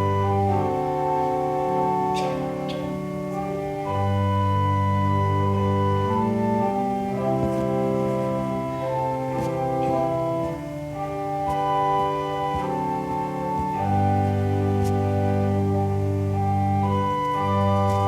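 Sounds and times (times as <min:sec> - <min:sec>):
organ playing slow chords: 0:00.0 - 0:18.0.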